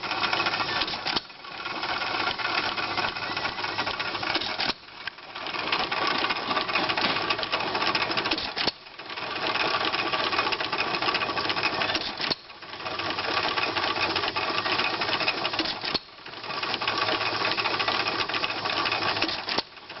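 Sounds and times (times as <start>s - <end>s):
cotton gin mechanical clatter: 0.0s - 20.0s.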